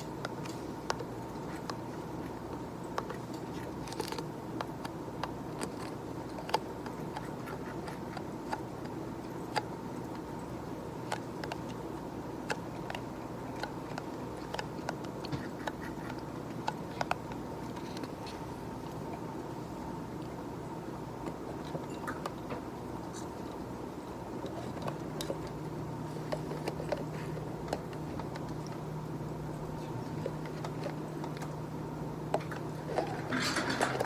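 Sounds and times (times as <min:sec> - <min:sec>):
background hum: 0:00.0 - 0:34.0.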